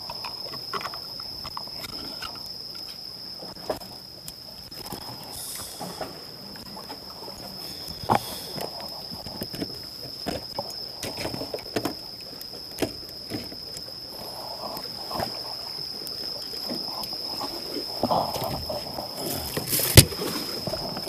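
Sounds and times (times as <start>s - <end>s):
water lapping against rocks: 0.0s - 21.0s.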